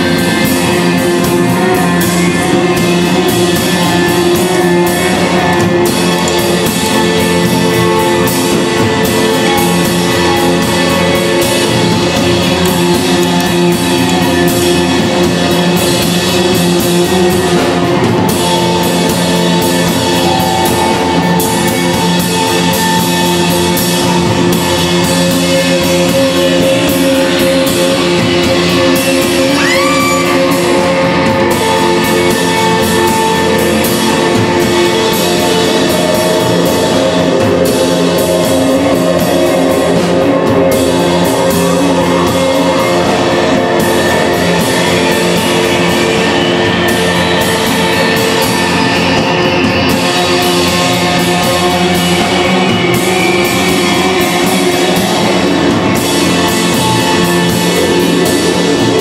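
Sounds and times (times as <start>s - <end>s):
improvised band music: 0.0s - 59.0s.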